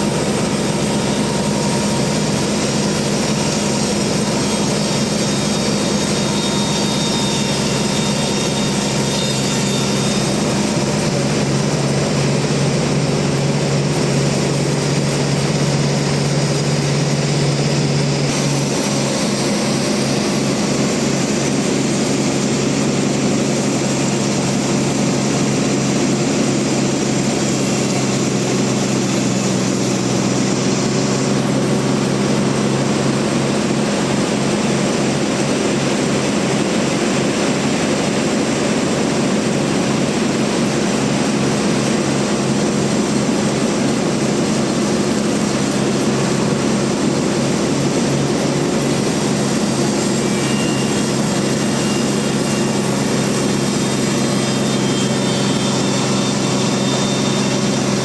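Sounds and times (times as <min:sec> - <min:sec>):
band sawmill droning: 0:00.0 - 0:58.0.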